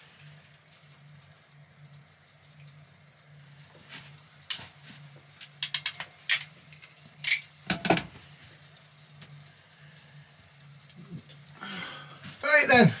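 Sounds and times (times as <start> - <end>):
faint steady low hum: 0.0 - 13.0.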